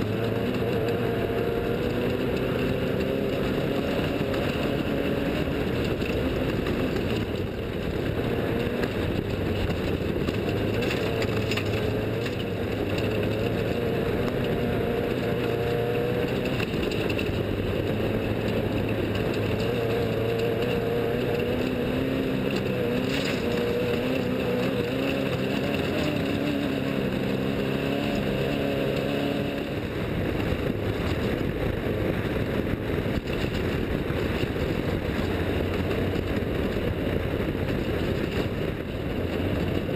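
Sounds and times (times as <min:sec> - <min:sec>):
off-road vehicle engine: 0:00.0 - 0:39.9
steady rushing noise: 0:00.0 - 0:39.9.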